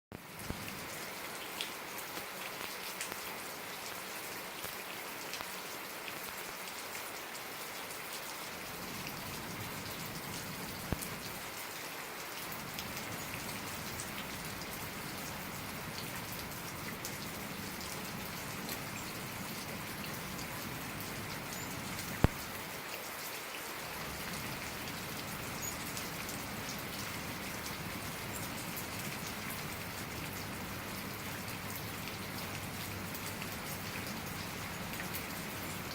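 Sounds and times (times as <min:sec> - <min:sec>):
steady rain falling: 0:00.1 - 0:35.9.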